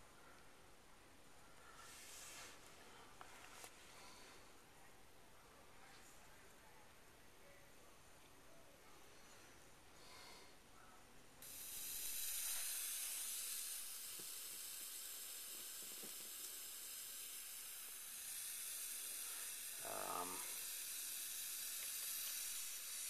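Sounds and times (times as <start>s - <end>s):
television high voltage hiss: 0.0s - 23.0s.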